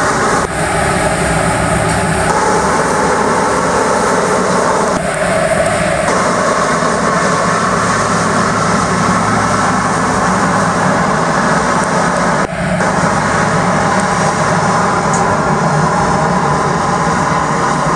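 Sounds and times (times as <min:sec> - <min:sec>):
truck engine and sweeper drone: 0:00.0 - 0:17.9.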